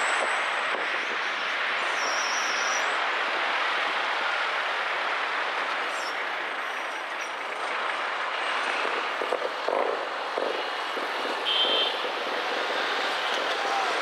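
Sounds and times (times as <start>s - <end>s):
city traffic noise: 0.0s - 14.0s.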